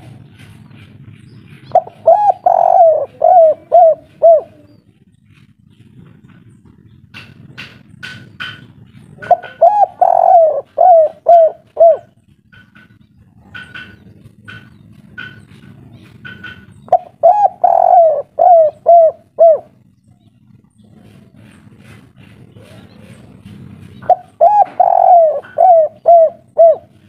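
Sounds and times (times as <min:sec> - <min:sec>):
dove cooing: 0:01.4 - 0:27.0.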